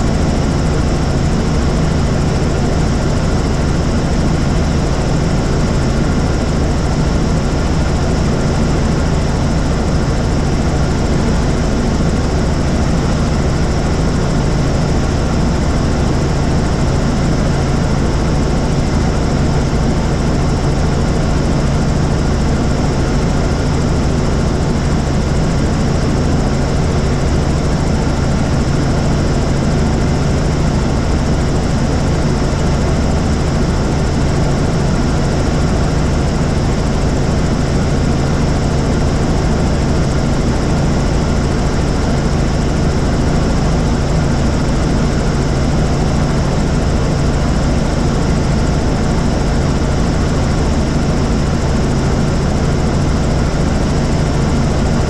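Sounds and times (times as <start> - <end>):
helicopter rotor drone: 0.0 - 55.0.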